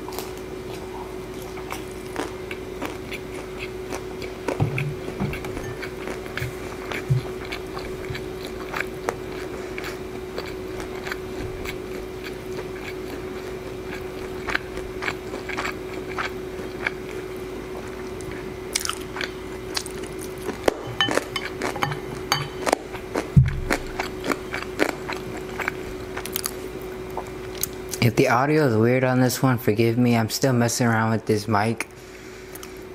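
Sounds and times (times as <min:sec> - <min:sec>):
chewing and biting food: 0:00.0 - 0:28.0.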